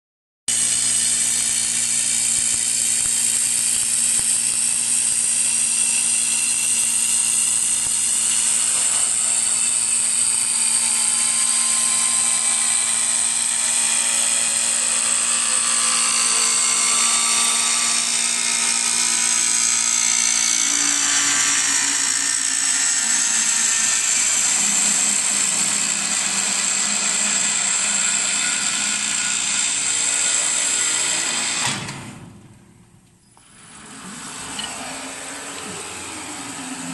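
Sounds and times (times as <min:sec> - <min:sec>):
wood-turning lathe whining: 0:00.5 - 0:32.0, 0:33.4 - 0:36.9.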